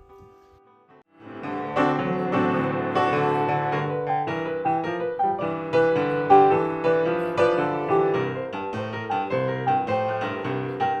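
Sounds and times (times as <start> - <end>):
solo piano music: 0.0 - 11.0.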